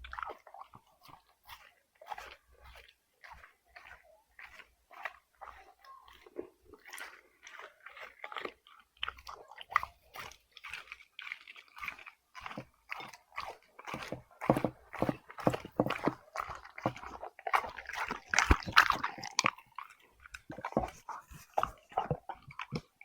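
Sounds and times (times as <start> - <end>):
dog chewing food: 0.0 - 23.0.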